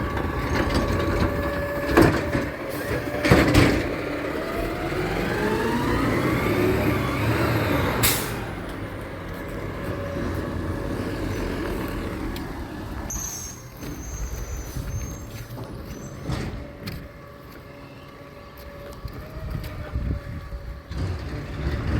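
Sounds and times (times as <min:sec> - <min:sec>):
garbage truck engine revving: 0:00.0 - 0:15.0, 0:18.2 - 0:21.9.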